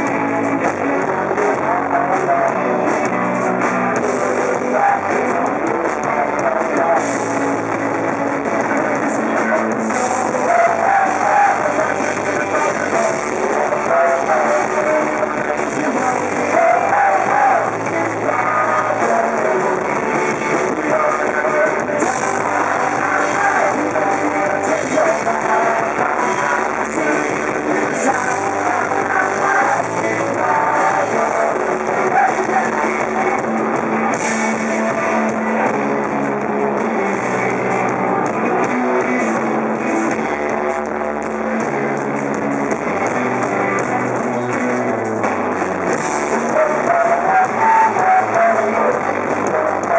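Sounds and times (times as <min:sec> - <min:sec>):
live rock band: 0:00.0 - 0:49.9
person singing: 0:00.0 - 0:49.9.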